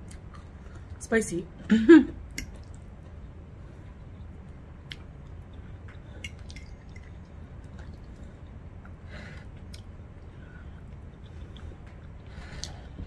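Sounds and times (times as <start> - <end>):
low steady hum: 0.0 - 13.0
wet chewing with mouth clicks: 2.3 - 13.0.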